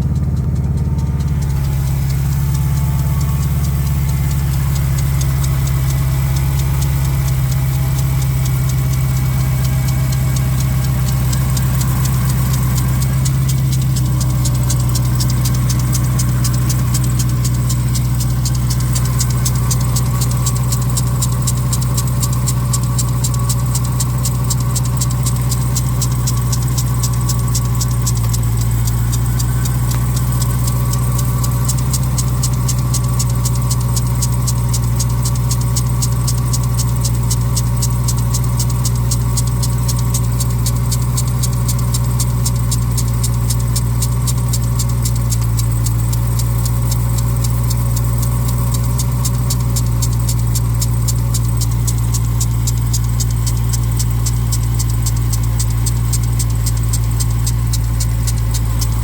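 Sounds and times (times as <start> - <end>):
car engine idling: 0.0 - 59.0
fast even ticking: 0.0 - 59.0.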